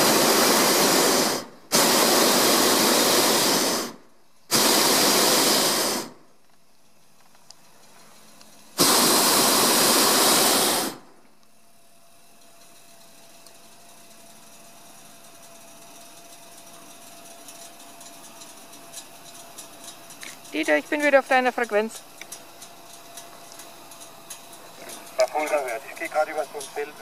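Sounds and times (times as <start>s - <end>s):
propane burner blasts: 0.0s - 6.6s, 7.2s - 27.0s.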